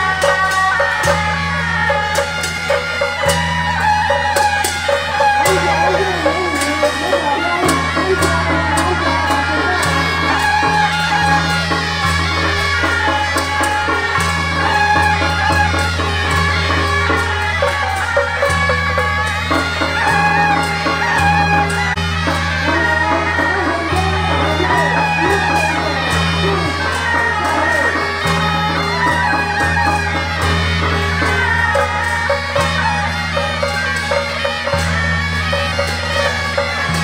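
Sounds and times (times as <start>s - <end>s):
shawms playing a procession tune: 0.0s - 37.0s.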